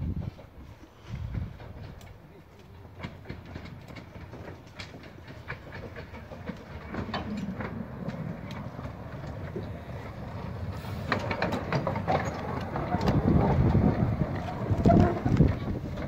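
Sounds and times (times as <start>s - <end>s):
steam train rumbling: 0.0s - 16.0s
wheels clicking and clanking: 0.0s - 16.0s.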